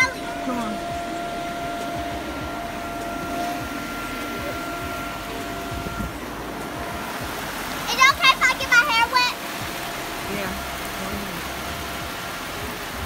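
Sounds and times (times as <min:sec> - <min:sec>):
blower fan whining: 0:00.0 - 0:13.0.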